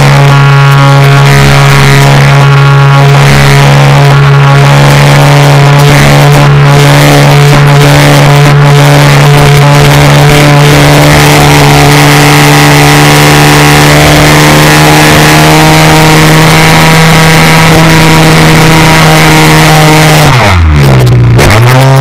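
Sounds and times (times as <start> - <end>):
model plane engine droning: 0.0 - 20.8.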